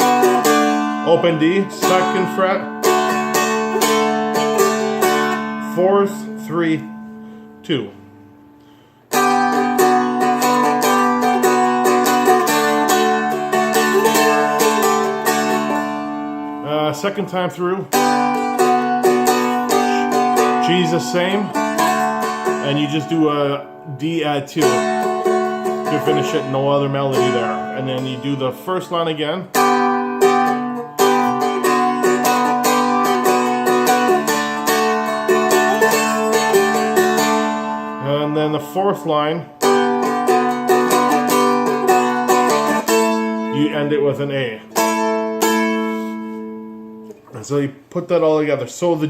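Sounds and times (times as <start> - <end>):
fretted dulcimer strummed: 0.0 - 47.2.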